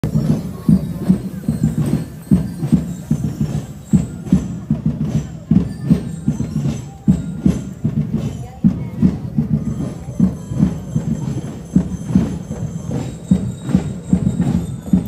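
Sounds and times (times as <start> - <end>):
marching band drums beating: 0.0 - 15.0.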